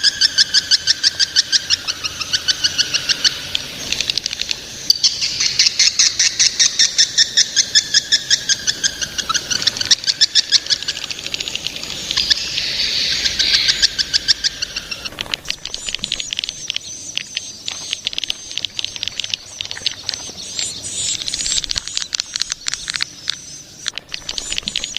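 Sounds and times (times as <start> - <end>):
high-pitched bird twittering: 4.9 - 24.9.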